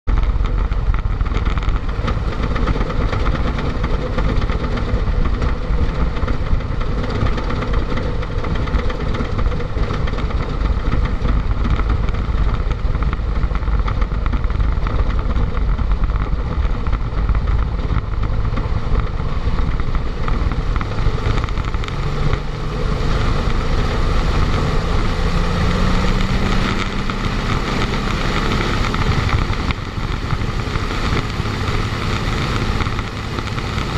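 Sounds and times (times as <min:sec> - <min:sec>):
aircraft piston engine running: 0:00.2 - 0:33.9.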